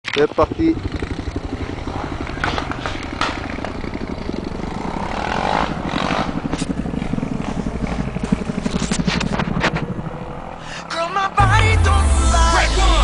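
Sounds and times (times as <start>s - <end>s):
dirt bike engine running: 0.1s - 13.0s.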